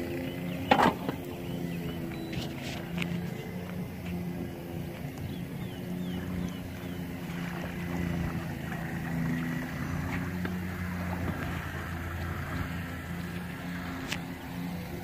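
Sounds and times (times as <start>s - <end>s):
outboard motor humming: 0.0s - 15.0s.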